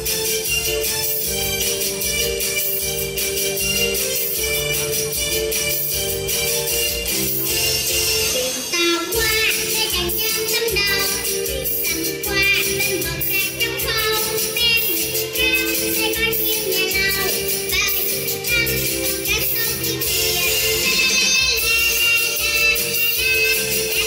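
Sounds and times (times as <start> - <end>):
children's dance song: 0.0 - 24.0.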